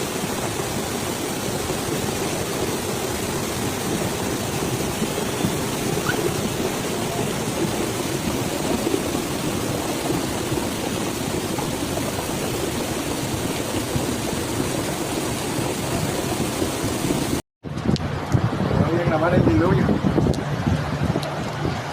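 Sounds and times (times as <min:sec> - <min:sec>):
heavy rain and rushing water: 0:00.0 - 0:21.9.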